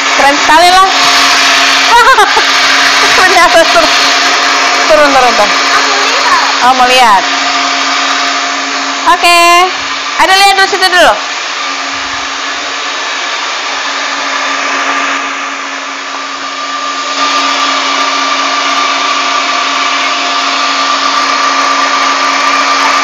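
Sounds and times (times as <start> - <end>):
electric mixer motor whine: 0.0 - 23.0.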